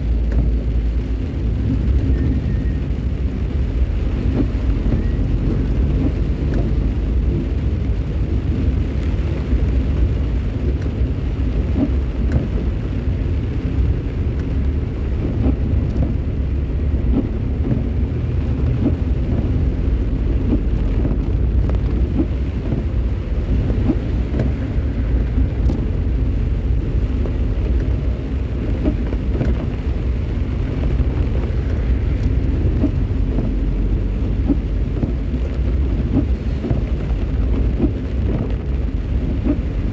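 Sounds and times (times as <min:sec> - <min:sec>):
vehicle driving on wet road: 0:00.0 - 0:39.9
rain hiss: 0:00.1 - 0:39.9.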